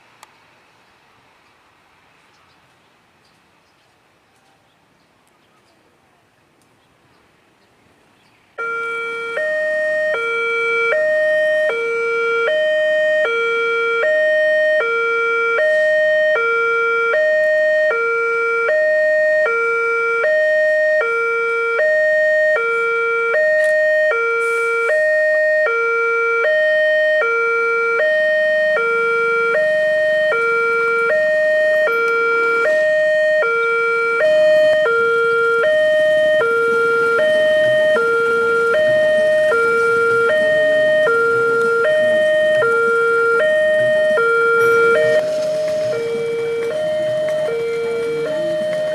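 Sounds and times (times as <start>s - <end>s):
two-tone level crossing alarm: 8.6s - 48.9s.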